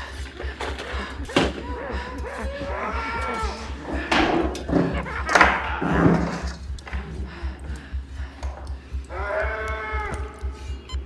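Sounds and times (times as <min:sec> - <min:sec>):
human cries of distress: 0:00.0 - 0:10.8.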